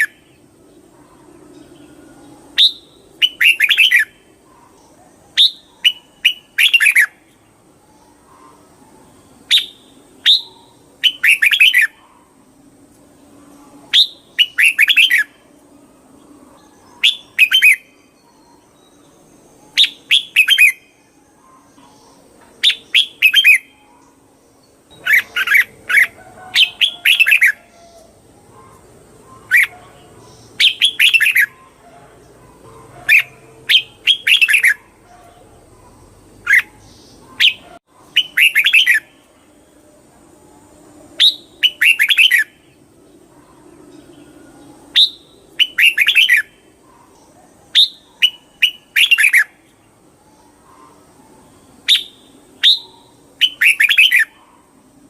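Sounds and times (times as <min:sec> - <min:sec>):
bulbul singing: 0:00.0 - 0:39.6, 0:40.6 - 0:55.0.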